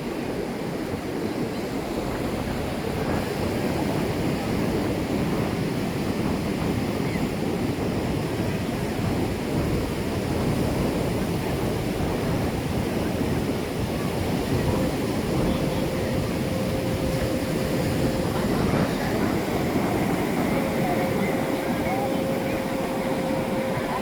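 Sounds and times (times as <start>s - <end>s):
ocean surf washing onto beach: 0.0s - 24.0s
wind on microphone: 0.0s - 24.0s.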